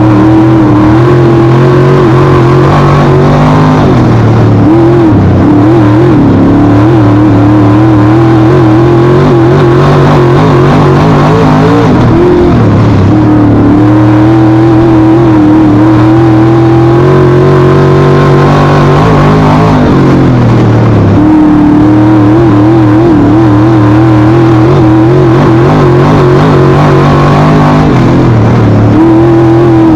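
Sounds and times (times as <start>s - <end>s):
race car engine revving: 0.0s - 29.9s.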